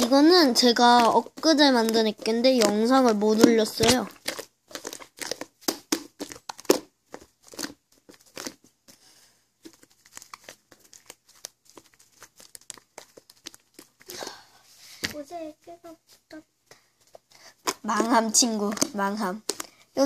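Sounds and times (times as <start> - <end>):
slime popping and crackling: 0.0 - 8.9, 9.6 - 14.4, 17.1 - 20.0.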